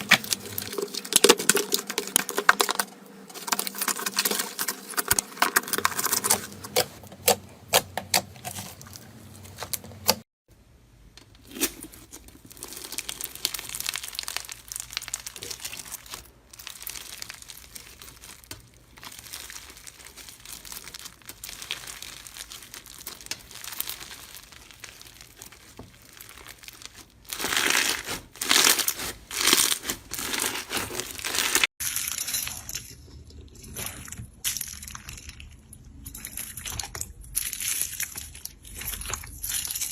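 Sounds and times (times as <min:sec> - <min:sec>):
slime squishing: 0:00.0 - 0:10.2, 0:11.3 - 0:31.7, 0:32.6 - 0:39.9.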